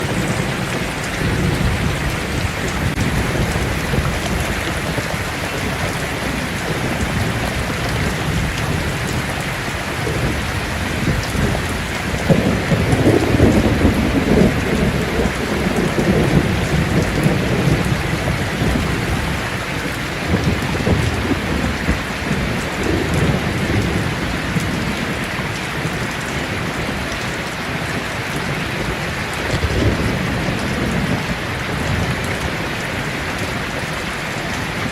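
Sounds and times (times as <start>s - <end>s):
rolling thunder: 0.0s - 27.2s, 27.9s - 33.4s
rain on a tin roof: 0.0s - 34.9s.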